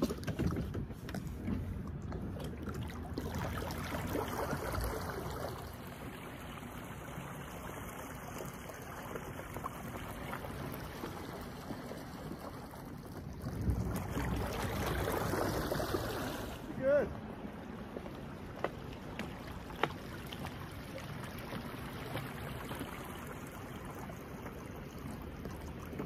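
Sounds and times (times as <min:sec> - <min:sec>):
water sloshing and trickling: 0:00.0 - 0:26.0.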